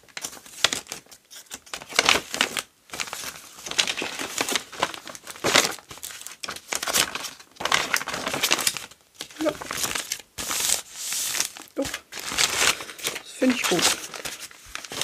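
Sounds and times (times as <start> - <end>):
paper pages rustling and crinkling: 0.0 - 15.0.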